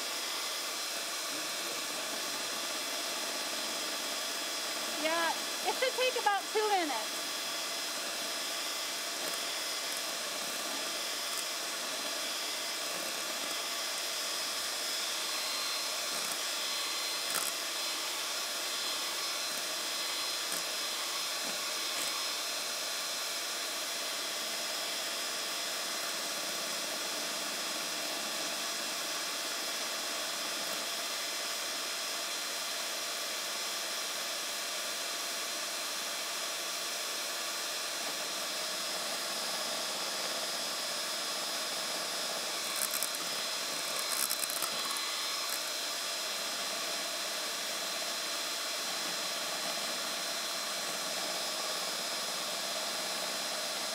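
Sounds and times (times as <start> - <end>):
electric hand mixer whirring: 0.0 - 53.9.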